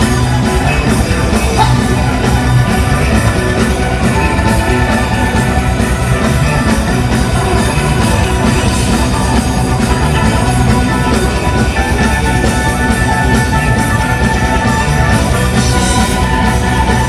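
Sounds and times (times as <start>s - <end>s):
bass guitar: 0.0s - 17.0s
drum kit: 0.0s - 17.0s
electric guitar: 0.0s - 17.0s
keyboard: 0.0s - 17.0s.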